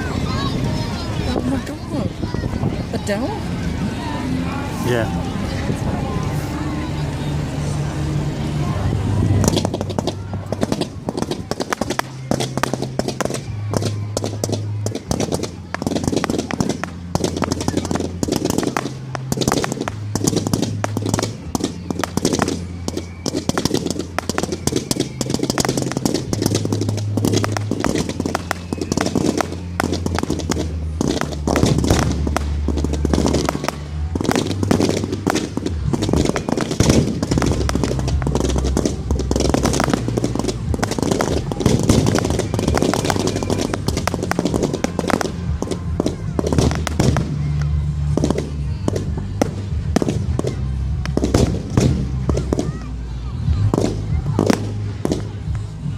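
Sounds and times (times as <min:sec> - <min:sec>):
fireworks bangs and crackles: 0:00.0 - 0:04.1, 0:04.8 - 0:55.9
music with low bass line: 0:03.4 - 0:55.9.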